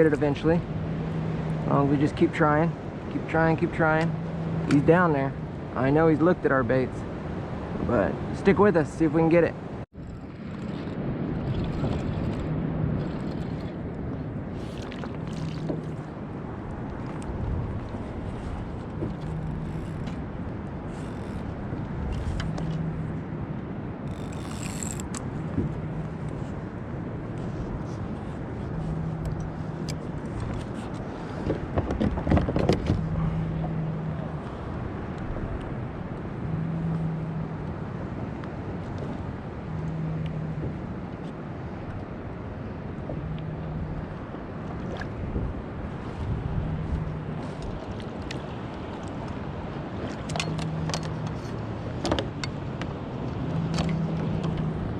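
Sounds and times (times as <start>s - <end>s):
wind and water rumble: 0.0s - 54.9s.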